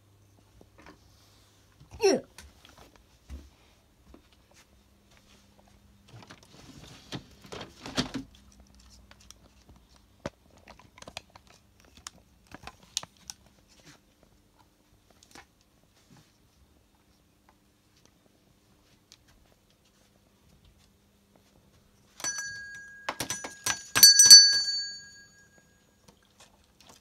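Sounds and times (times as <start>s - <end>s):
soft rustling and crinkling: 0.4s - 22.2s.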